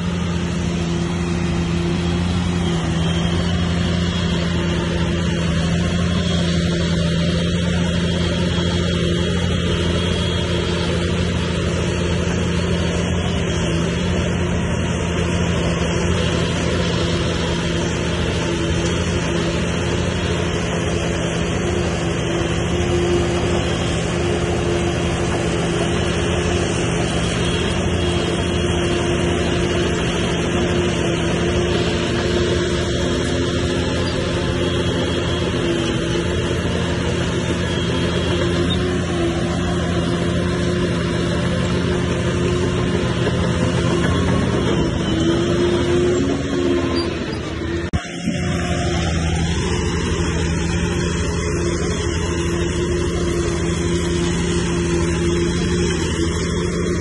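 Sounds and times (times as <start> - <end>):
bulldozer diesel engine droning: 0.0 - 57.0.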